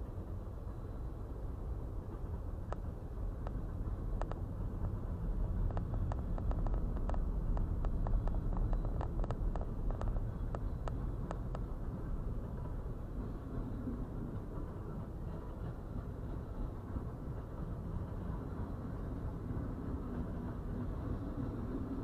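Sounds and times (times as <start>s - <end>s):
muffled freight train rumble: 0.0s - 22.0s
train wheels clacking on rails: 0.0s - 22.0s.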